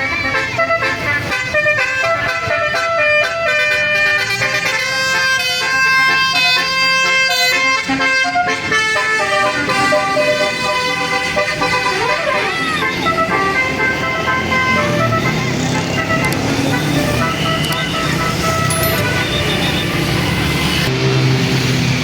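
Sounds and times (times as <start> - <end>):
bus multi-tone horn playing tune: 0.0 - 21.1.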